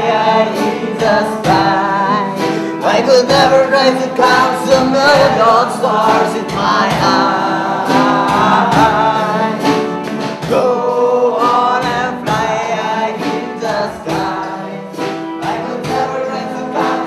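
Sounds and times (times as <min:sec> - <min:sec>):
instrumental accompaniment: 0:00.0 - 0:17.0.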